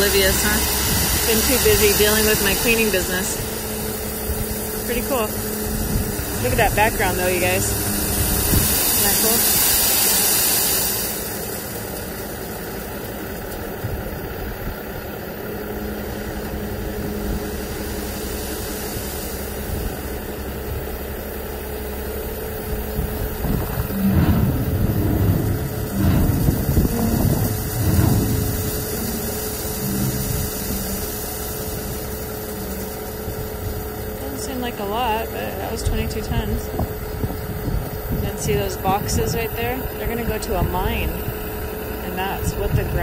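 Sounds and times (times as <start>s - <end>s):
gravel pouring from truck bed: 0.0s - 36.0s
diesel truck engine running: 0.0s - 43.0s
loud rumbling surges: 0.0s - 43.0s
steady whine: 0.0s - 43.0s.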